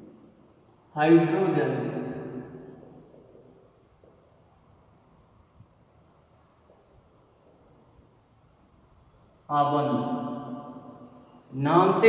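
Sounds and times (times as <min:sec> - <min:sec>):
faint insects chirring: 0:00.0 - 0:12.0.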